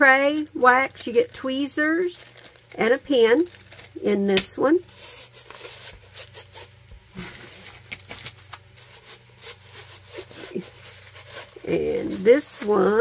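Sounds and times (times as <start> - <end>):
packaging rustling: 0.2 - 13.0.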